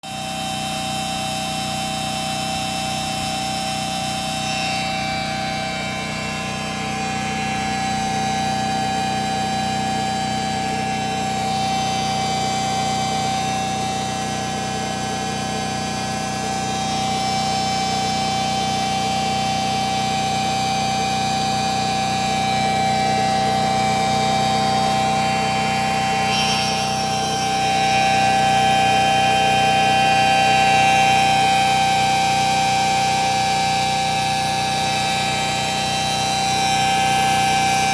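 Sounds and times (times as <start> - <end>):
machine whining and humming: 0.1 - 37.9.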